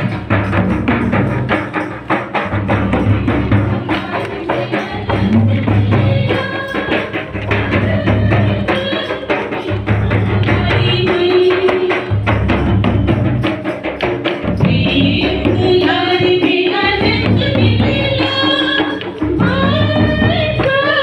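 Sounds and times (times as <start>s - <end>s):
large drums beating: 0.0s - 21.0s.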